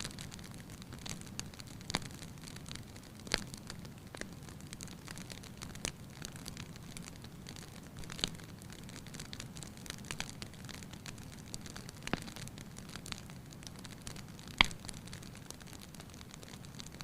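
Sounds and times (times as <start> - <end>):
fire low rumble: 0.0 - 17.0
fire snapping and popping: 0.0 - 17.0.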